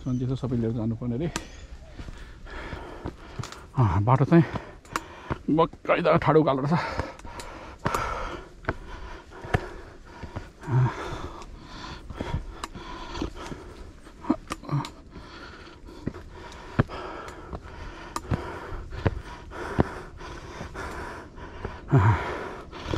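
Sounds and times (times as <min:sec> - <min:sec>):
footsteps and scuffs on stone: 0:01.2 - 0:14.8, 0:15.8 - 0:22.2
person breathing hard: 0:02.0 - 0:05.5, 0:06.6 - 0:22.9.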